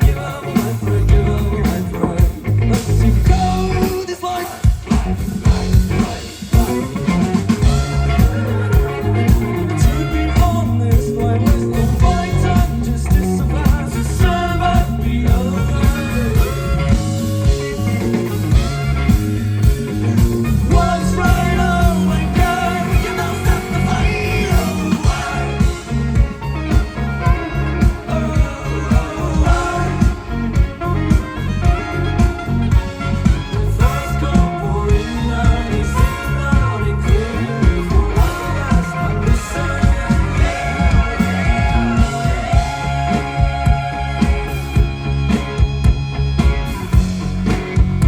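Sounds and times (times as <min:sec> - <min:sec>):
person singing: 0:00.0 - 0:18.7, 0:20.5 - 0:32.0, 0:33.3 - 0:44.8
drums keeping a steady beat: 0:00.0 - 0:48.0
rock band playing live: 0:00.0 - 0:48.0.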